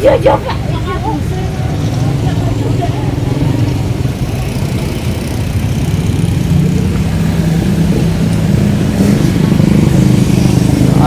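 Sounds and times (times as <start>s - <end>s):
motorcycle engine running: 1.1s - 11.0s.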